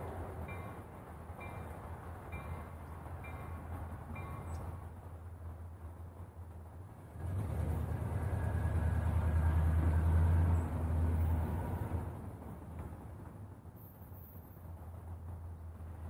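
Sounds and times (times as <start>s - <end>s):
heavy vehicle engine rumble: 0.0s - 16.0s.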